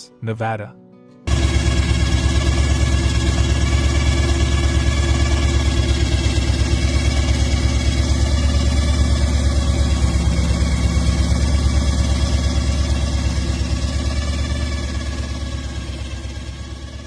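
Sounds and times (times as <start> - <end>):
engine idling: 1.3 - 17.0.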